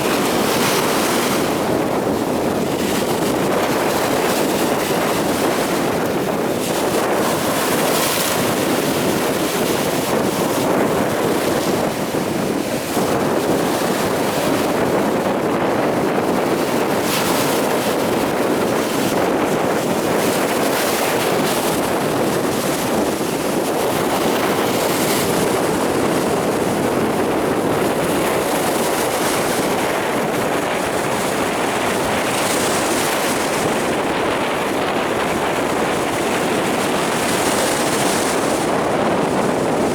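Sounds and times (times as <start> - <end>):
waves breaking: 0.0 - 39.9
wind buffeting microphone: 0.0 - 39.9.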